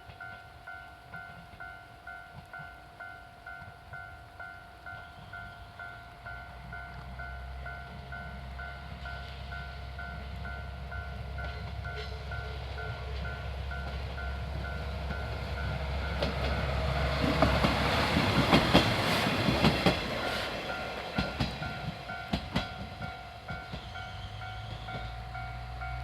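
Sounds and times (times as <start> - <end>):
train passing: 0.0 - 26.0
level-crossing alarm ringing: 0.3 - 26.0.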